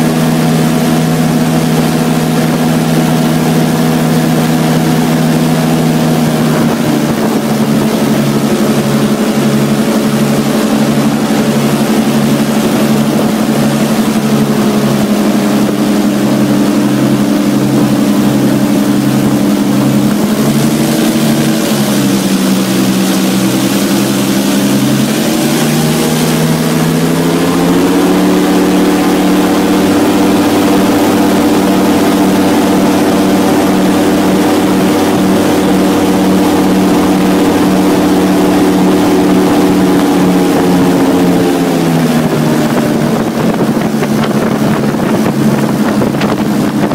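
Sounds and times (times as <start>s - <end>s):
airboat engine and propeller: 0.0s - 46.9s.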